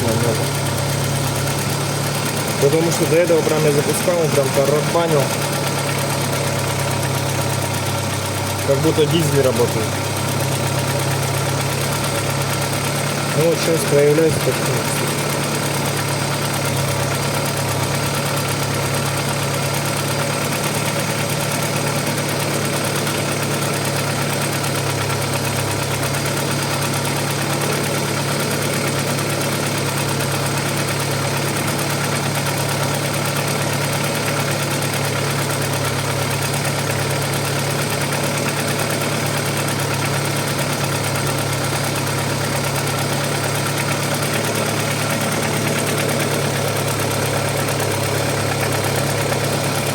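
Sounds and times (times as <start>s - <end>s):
car engine idling: 0.0s - 49.9s
engine knocking: 0.0s - 49.9s.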